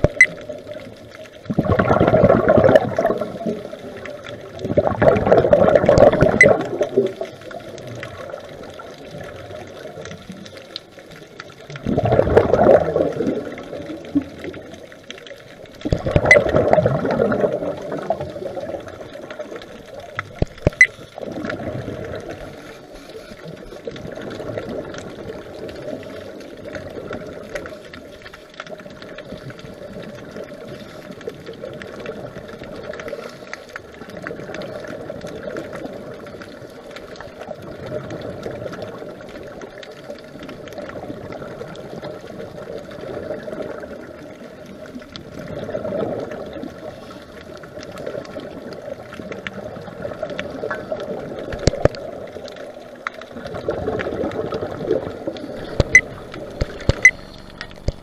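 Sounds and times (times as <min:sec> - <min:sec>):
scuba regulator bubbles underwater: 0:00.0 - 0:58.0
wash of water noise: 0:00.0 - 0:58.0.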